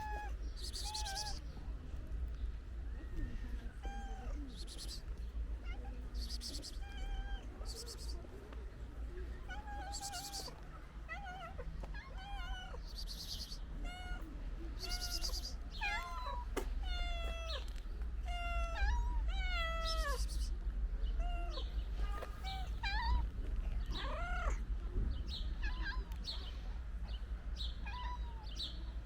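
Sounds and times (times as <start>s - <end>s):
cats meowing: 0.0s - 1.4s, 3.5s - 5.0s, 5.6s - 8.2s, 9.4s - 26.5s, 27.1s - 28.9s.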